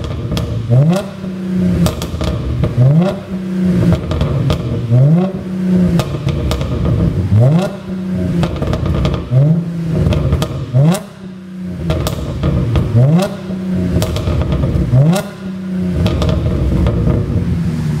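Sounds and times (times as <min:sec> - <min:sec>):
exhaust pops and crackles: 0:00.0 - 0:17.5
car engine revving: 0:00.0 - 0:18.0.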